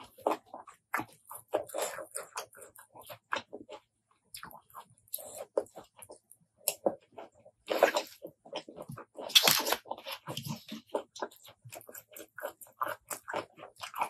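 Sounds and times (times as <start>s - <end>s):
chewing with wet mouth clicks: 0.0s - 14.0s.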